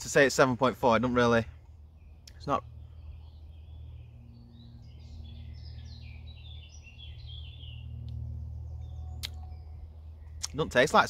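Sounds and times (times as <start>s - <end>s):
low outdoor rumble: 0.0s - 11.0s
songbird singing: 0.0s - 11.0s.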